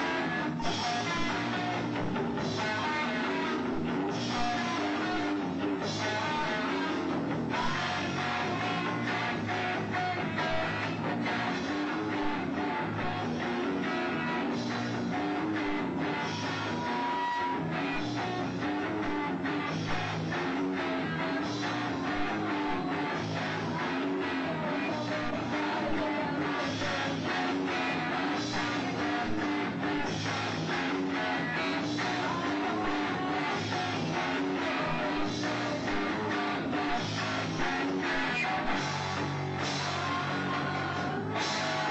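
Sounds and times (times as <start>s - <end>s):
drum kit: 0.0s - 41.9s
electric guitar: 0.0s - 41.9s.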